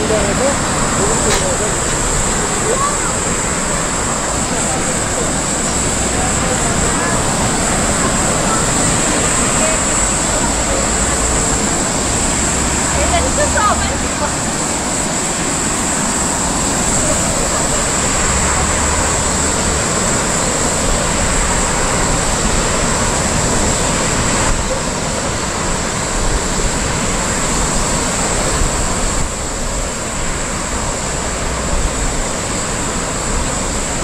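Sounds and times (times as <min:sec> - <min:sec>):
river rapids rushing: 0:00.0 - 0:34.0
wind: 0:00.0 - 0:34.0.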